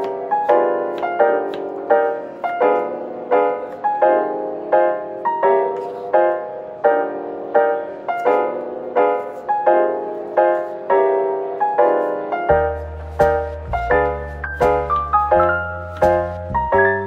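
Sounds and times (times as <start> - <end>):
slow gentle piano chords: 0.0 - 17.0.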